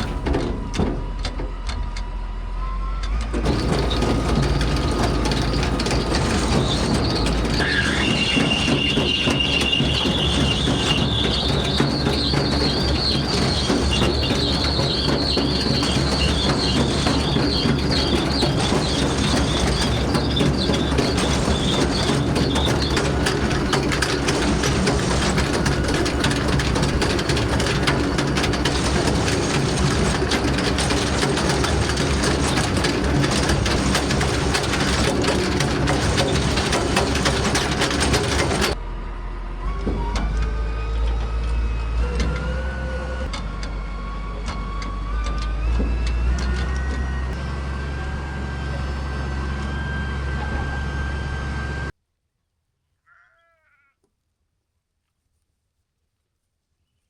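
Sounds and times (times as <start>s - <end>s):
engine pitch rising: 0.0s - 51.9s
farm vehicle rattling: 0.0s - 51.9s.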